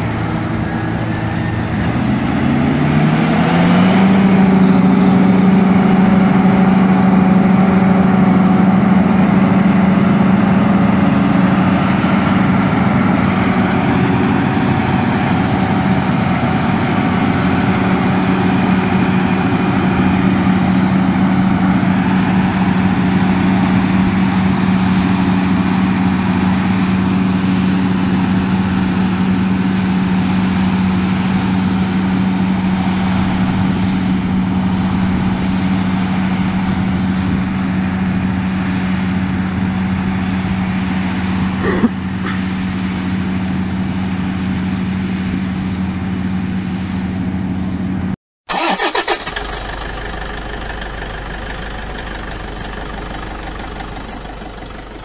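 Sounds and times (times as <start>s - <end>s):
tractor engine: 0.0s - 55.0s.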